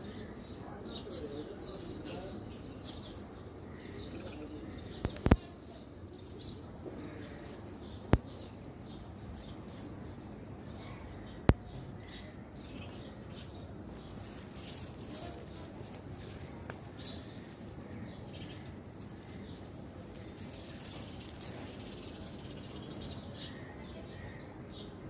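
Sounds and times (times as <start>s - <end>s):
birds chirping: 0.0s - 25.0s
outdoor background noise: 0.0s - 25.0s.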